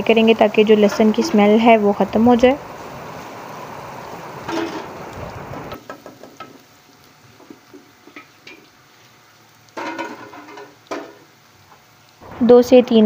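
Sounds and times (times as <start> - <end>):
onion and garlic sizzling in oil: 0.0 - 13.0.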